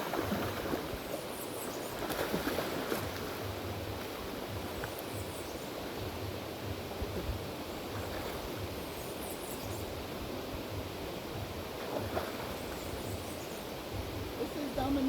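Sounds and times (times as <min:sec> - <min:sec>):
river water rushing: 0:00.0 - 0:15.0
wind on the microphone: 0:01.9 - 0:15.0.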